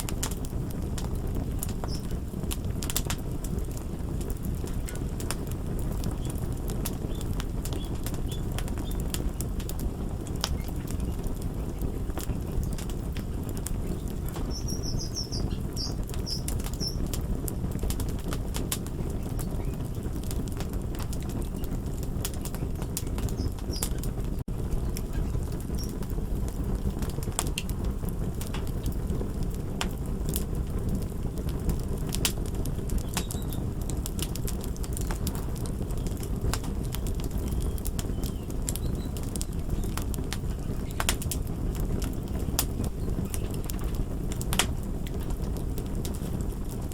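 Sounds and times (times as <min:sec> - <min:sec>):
fire crackling: 0:00.0 - 0:46.9.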